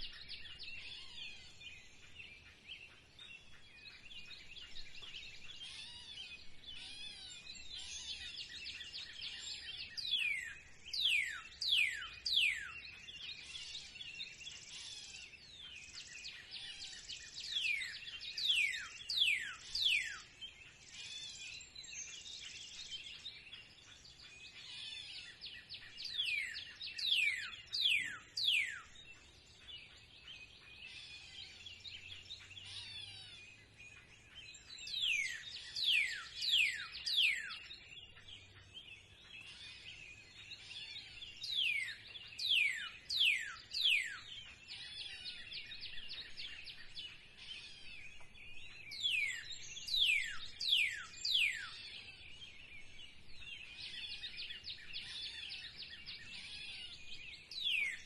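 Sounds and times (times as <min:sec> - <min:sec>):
bird chorus chirping: 0:00.0 - 0:58.0.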